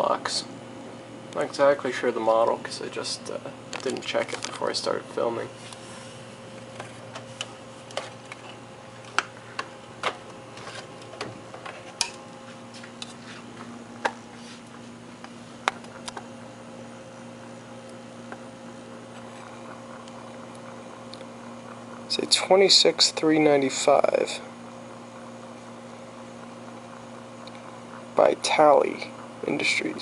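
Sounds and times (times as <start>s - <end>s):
clock motor electric hum: 0.0s - 30.0s.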